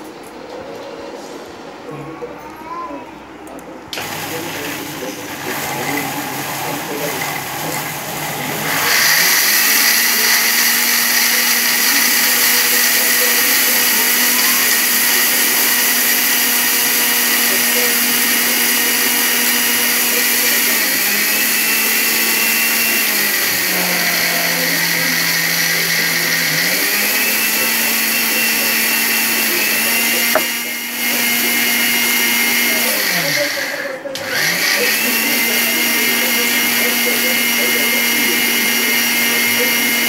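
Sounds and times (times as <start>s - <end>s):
mixer grinder motor whine: 3.9s - 40.0s.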